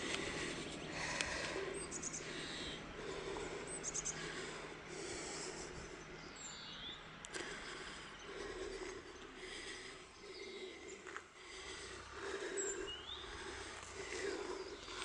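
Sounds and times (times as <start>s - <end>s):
birds chirping: 0.0s - 15.0s
faint low hum: 0.0s - 15.0s.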